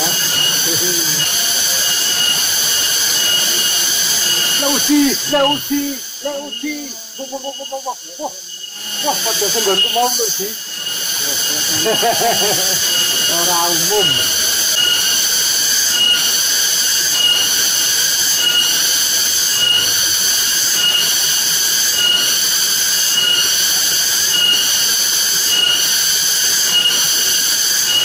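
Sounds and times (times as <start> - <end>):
cicadas buzzing: 0.0 - 28.0.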